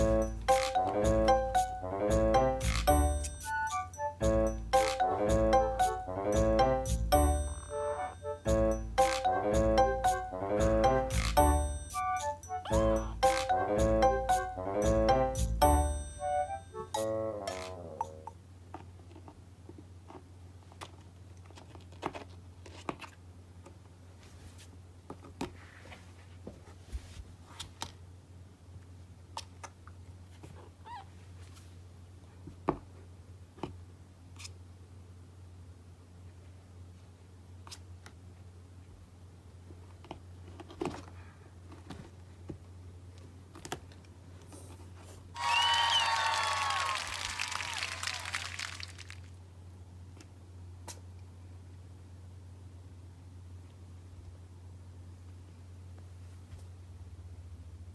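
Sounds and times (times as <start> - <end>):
low steady hum: 0.0 - 57.9.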